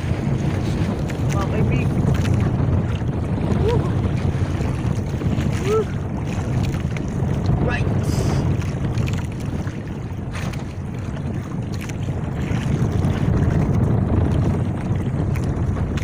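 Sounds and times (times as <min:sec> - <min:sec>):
sea wash around boat: 0:00.0 - 0:16.0
wind buffeting microphone: 0:00.0 - 0:16.0.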